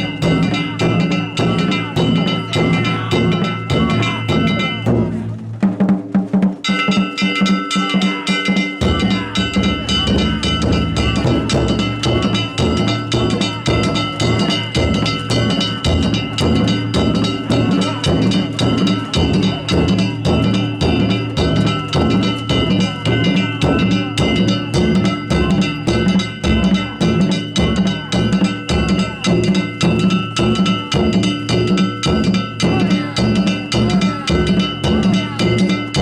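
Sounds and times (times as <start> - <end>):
hand gongs ringing: 0.0 - 5.3, 6.6 - 36.0
taiko drum beating: 0.0 - 36.0.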